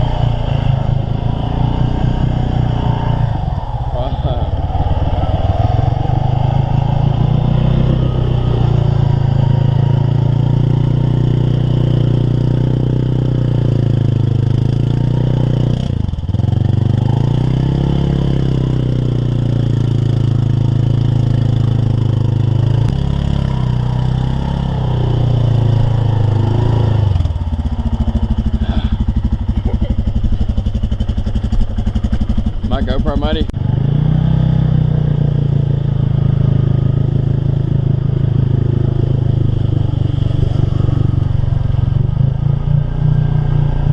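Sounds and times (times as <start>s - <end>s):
vehicle engine running at high revs: 0.0s - 43.9s.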